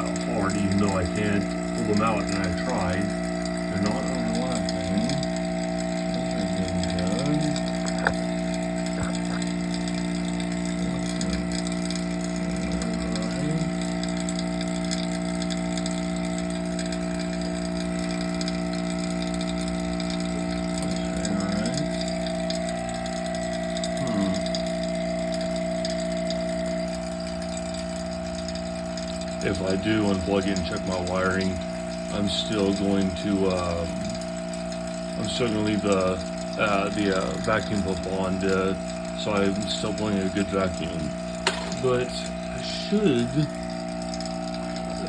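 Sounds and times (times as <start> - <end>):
vacuum pump humming: 0.0 - 45.0.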